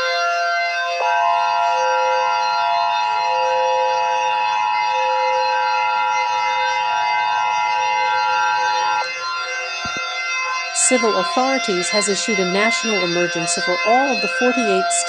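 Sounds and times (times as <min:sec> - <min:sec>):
two-tone alarm: 0:00.0 - 0:15.0
synthesized drone: 0:01.0 - 0:15.0.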